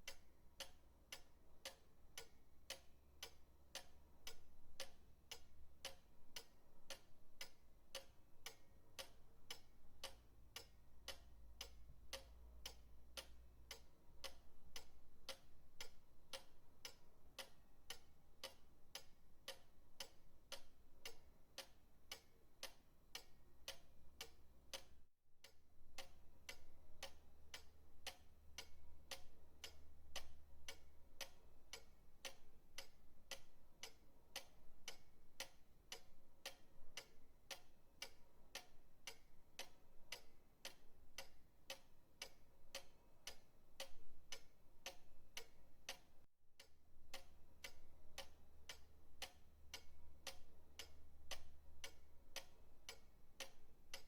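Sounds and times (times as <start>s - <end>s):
pendulum clock ticking: 0.0s - 54.0s.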